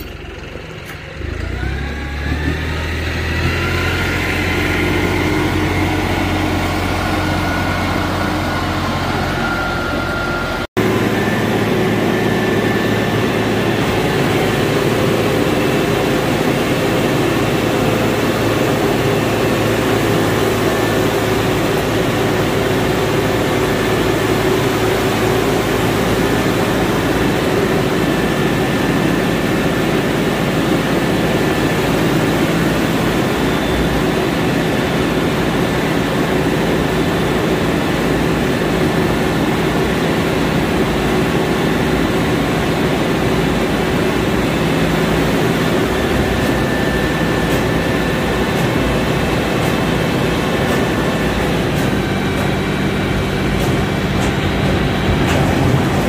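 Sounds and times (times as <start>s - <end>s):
farm machinery running: 0.0s - 56.0s
tractor engine: 0.0s - 56.0s.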